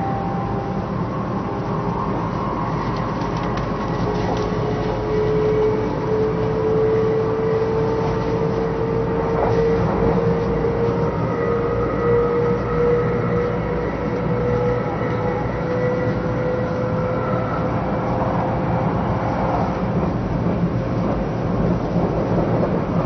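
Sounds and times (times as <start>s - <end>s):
rising train whine: 0.0s - 23.0s
train running rumble: 0.0s - 23.0s.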